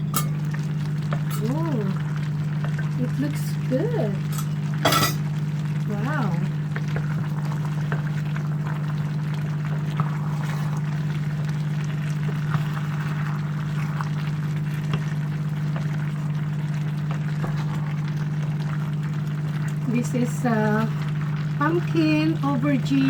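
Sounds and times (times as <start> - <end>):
pot boiling with bubbling pops: 0.0 - 23.0
steady low hum: 0.0 - 23.0.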